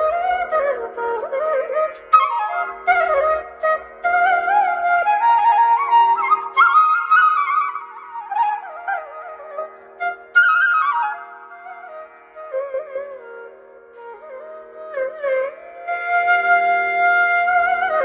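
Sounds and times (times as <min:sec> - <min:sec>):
flute melody: 0:00.0 - 0:18.0.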